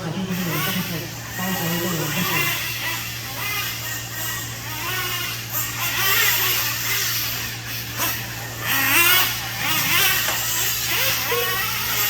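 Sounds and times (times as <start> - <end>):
model truck engines whining: 0.0 - 12.0
steady low hum: 0.0 - 12.0.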